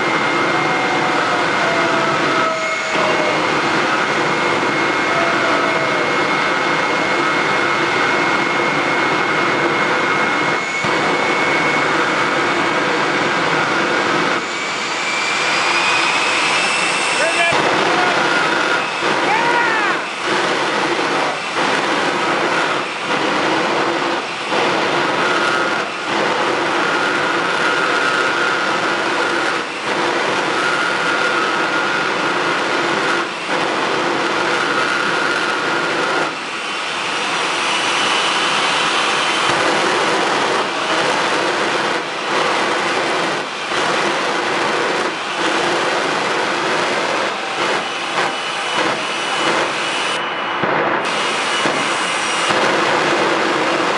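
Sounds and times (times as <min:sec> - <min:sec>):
jet engine roaring with whine: 0:00.0 - 0:53.9.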